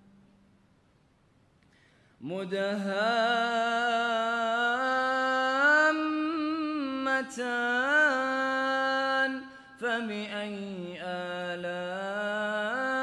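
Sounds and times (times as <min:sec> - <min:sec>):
man reciting melodically: 0:02.2 - 0:13.0.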